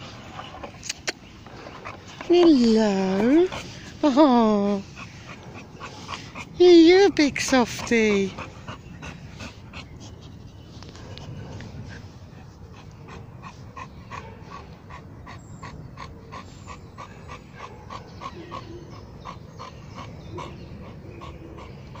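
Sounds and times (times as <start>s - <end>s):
dog panting: 0.3s - 22.0s.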